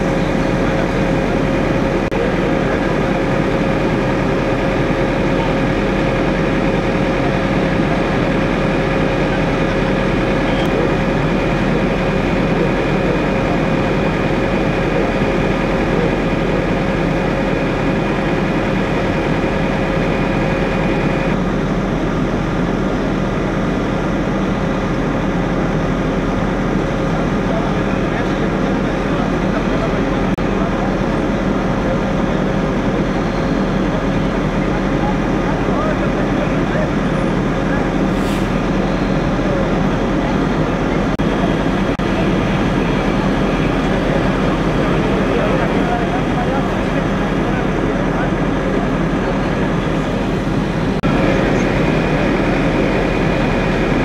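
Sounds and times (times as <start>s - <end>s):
fire engine running: 0.0s - 54.0s
steady whine: 0.0s - 54.0s.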